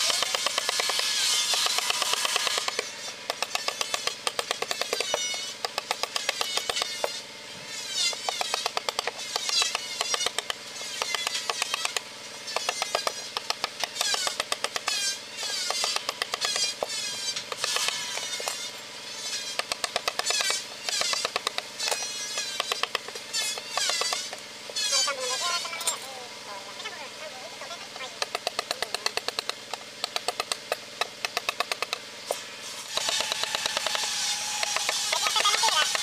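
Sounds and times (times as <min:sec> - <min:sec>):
mallet striking chisel into wood: 0:00.0 - 0:07.2, 0:08.0 - 0:18.7, 0:19.4 - 0:24.4, 0:28.2 - 0:32.0, 0:32.9 - 0:36.0.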